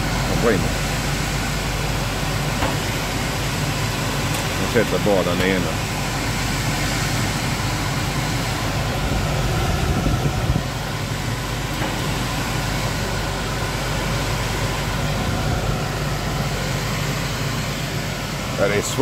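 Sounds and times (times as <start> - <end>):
air heater whirring: 0.0 - 19.0.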